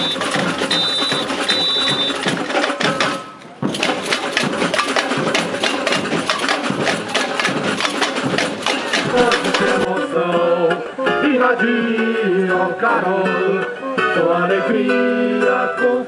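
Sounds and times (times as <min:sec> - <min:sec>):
samba percussion playing: 0:00.0 - 0:15.4.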